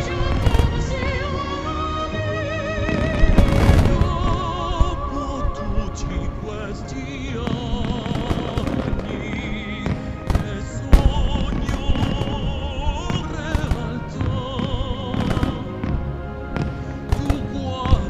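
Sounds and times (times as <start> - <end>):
fireworks bangs: 0.0 - 18.0
music over loudspeakers: 0.0 - 18.0.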